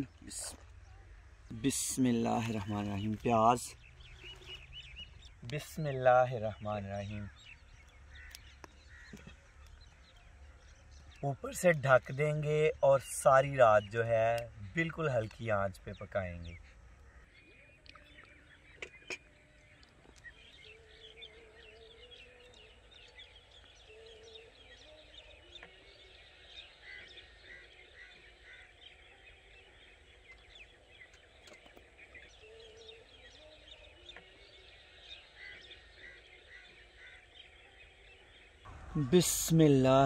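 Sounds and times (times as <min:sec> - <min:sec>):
drawn-out wavering bird calls: 0:00.0 - 0:40.0
small birds chirping: 0:00.0 - 0:40.0.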